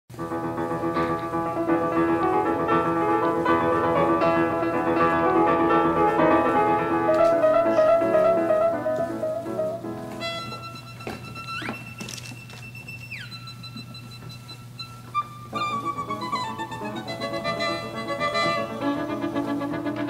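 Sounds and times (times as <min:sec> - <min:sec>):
instrumental background music: 0:00.1 - 0:20.0.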